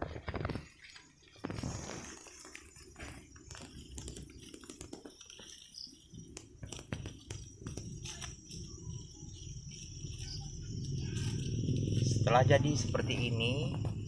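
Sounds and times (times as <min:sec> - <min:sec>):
clicks and rustling leaves: 0:00.0 - 0:14.0
insects humming: 0:00.0 - 0:14.0.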